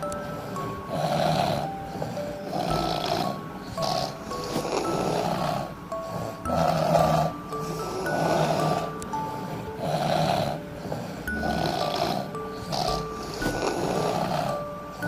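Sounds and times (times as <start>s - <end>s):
people snoring: 0.0s - 15.0s
simple background music melody: 0.0s - 15.0s.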